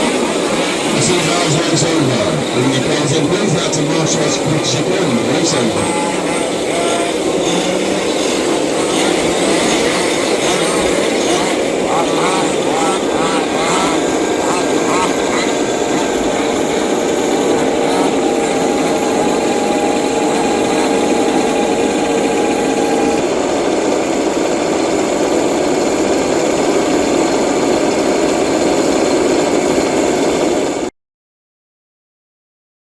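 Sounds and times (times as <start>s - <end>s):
small two-stroke engines buzzing: 0.0s - 30.9s.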